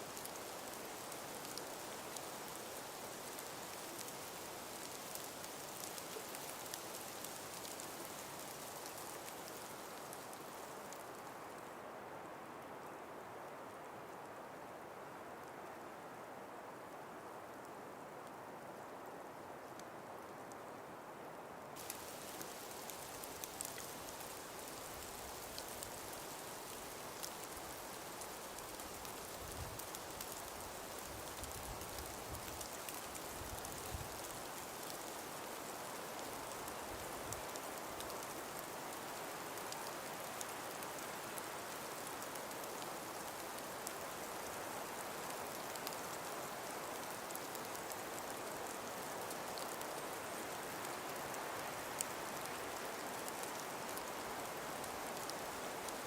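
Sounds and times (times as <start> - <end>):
breeze hissing through forest: 0.0 - 56.0
faint ticks: 0.1 - 11.7, 19.6 - 20.6, 21.8 - 56.0.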